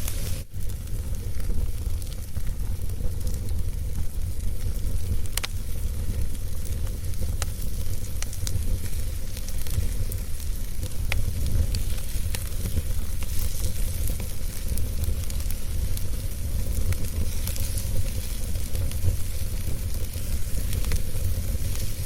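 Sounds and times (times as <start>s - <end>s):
wood fire burning in fireplace: 0.0s - 22.0s.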